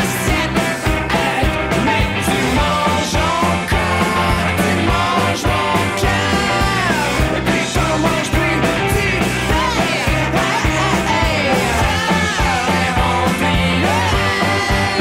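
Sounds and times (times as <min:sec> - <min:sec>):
drum beat: 0:00.0 - 0:15.0
loud rock music: 0:00.0 - 0:15.0.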